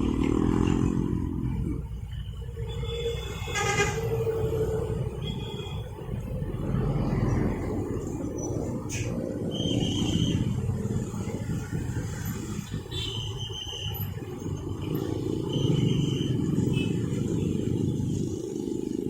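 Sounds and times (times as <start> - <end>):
rumble of passing traffic: 0.0 - 19.0.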